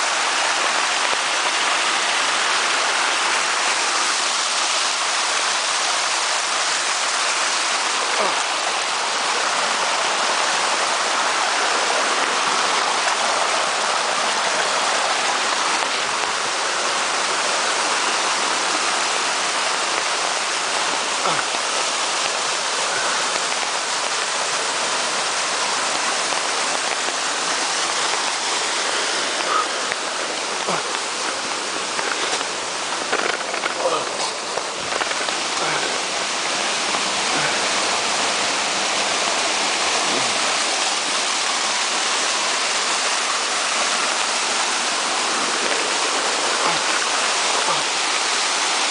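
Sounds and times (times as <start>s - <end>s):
rushing creek and waterfall: 0.0s - 48.9s.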